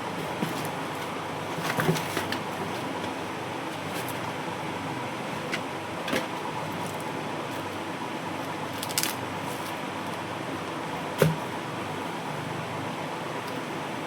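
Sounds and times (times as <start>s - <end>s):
fan humming with faint whine: 0.0s - 14.0s.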